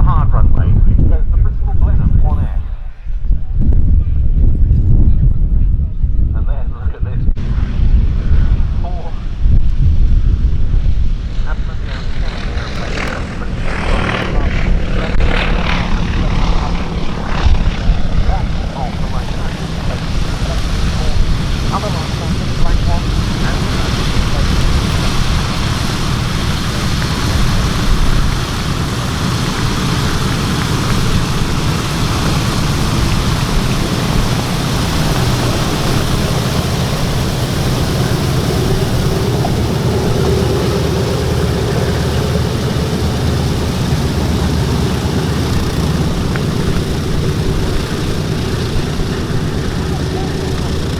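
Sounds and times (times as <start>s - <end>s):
propeller plane engines droning: 0.0s - 50.9s.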